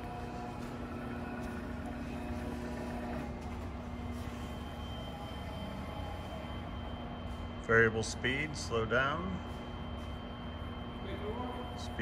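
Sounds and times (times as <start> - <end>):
electric motor and gearbox hum: 0.0 - 12.0.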